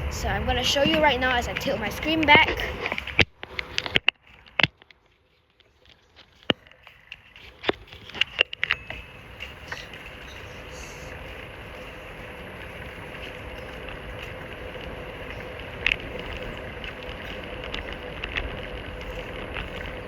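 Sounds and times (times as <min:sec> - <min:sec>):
bicycle clicks and rattles: 0:00.0 - 0:20.0
wind and tyres rushing: 0:00.0 - 0:20.0.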